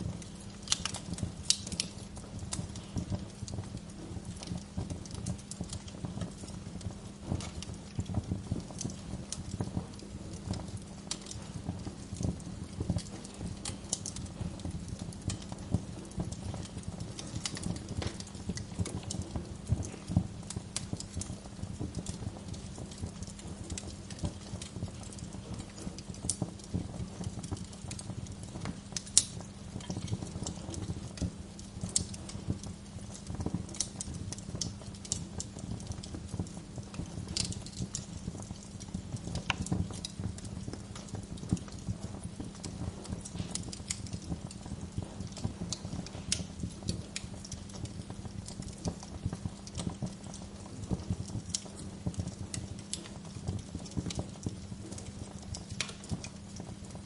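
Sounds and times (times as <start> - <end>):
steady low hum: 0.0 - 57.0
wood fire crackling: 0.0 - 57.0.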